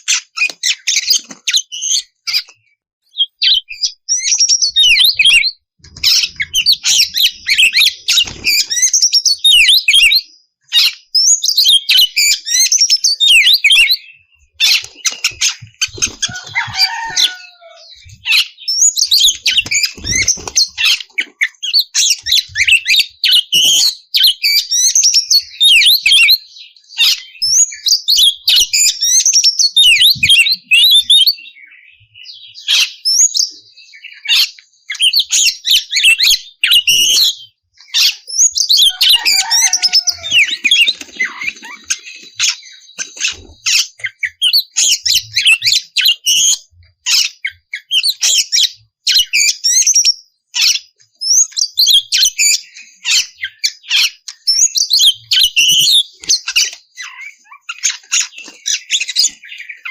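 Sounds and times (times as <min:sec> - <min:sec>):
bird singing whistles and chatter: 0:00.0 - 0:59.9.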